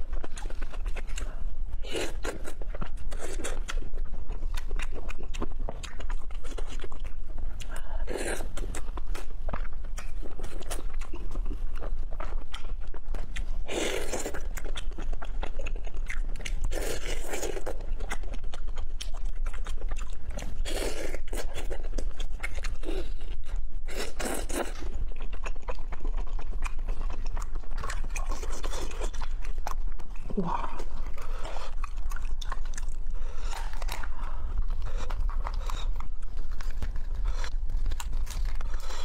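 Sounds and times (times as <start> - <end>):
chewing and crunching seafood: 0.0 - 39.0.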